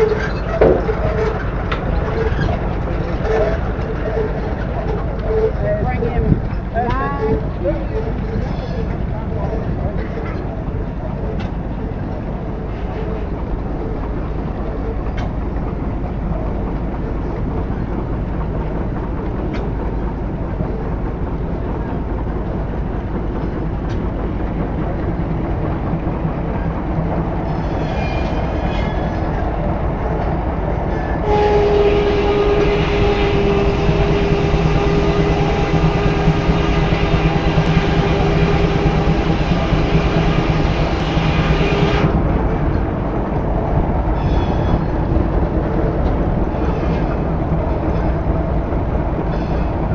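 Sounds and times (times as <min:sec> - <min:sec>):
sawmill mechanical clatter: 0:00.0 - 0:43.5.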